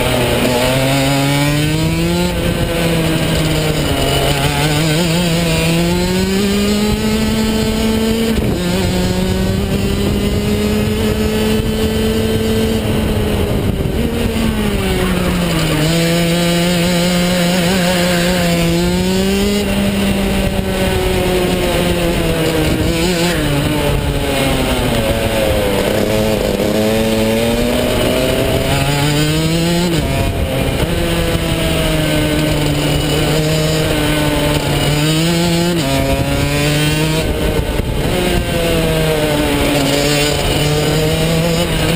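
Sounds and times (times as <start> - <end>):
kart engine running hard: 0.0 - 41.9.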